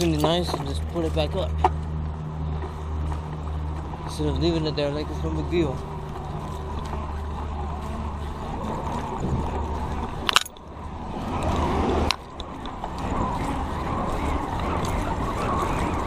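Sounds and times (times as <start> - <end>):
traffic rumble: 0.0 - 16.0
wind: 0.0 - 16.0.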